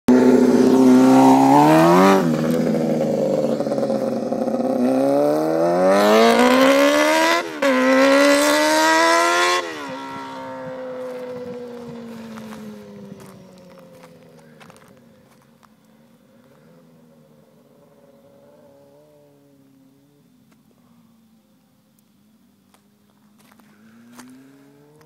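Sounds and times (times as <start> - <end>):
motorcycle engine revving: 0.1 - 15.5, 16.3 - 20.5, 23.4 - 25.0.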